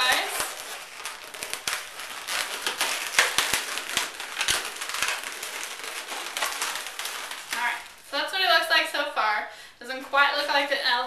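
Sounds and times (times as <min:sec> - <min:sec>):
balloon squeaking and crackling: 0:00.0 - 0:09.4.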